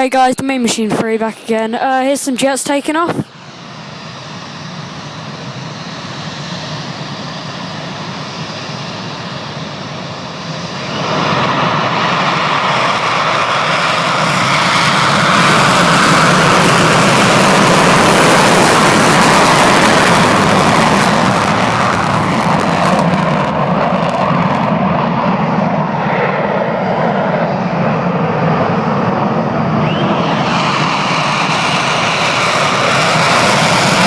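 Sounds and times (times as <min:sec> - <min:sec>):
jet engines taking off: 0:00.0 - 0:34.0.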